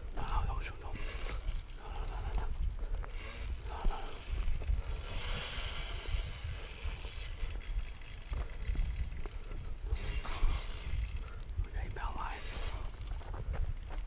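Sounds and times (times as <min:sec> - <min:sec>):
wind rumble on microphone: 0:00.0 - 0:14.0
fishing reel ticking: 0:00.2 - 0:14.0.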